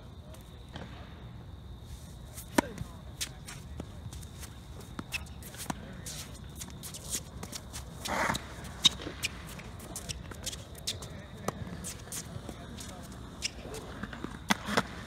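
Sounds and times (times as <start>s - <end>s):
shoe scuffs: 1.8s - 15.0s.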